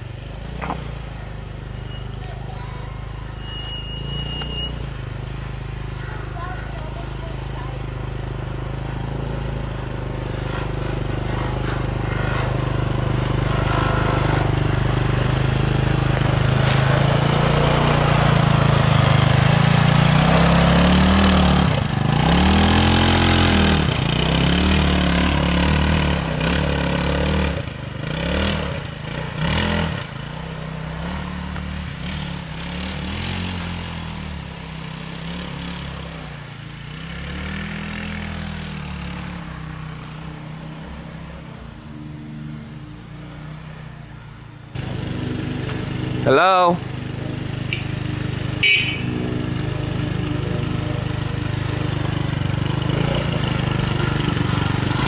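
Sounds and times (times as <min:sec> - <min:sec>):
go-kart engine revving: 0:00.0 - 0:40.8, 0:44.7 - 0:55.0.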